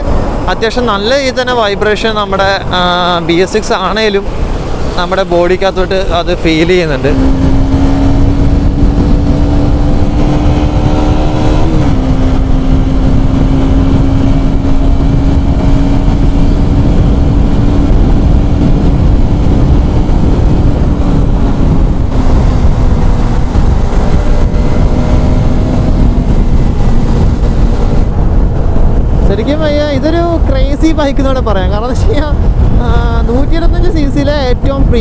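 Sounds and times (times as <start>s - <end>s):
motorcycle engine droning: 0.0s - 33.5s
wind rush on microphone: 0.0s - 35.0s.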